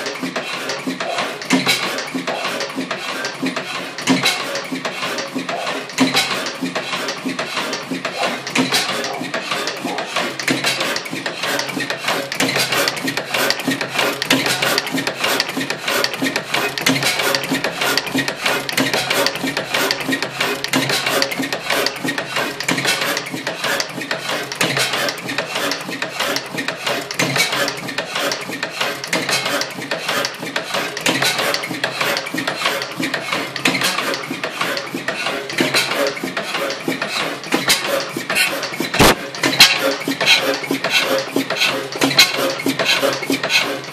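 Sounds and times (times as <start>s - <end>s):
oil engine running with metallic clatter: 0.0s - 43.9s.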